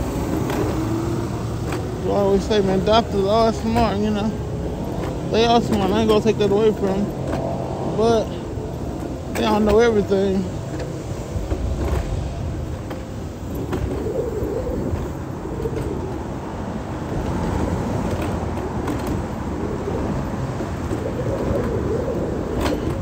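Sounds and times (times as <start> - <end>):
wheelchair rolling on concrete: 0.0 - 23.0.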